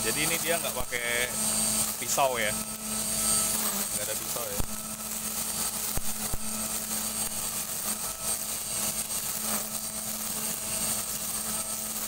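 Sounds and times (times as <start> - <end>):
string trimmer whine: 0.0 - 12.0.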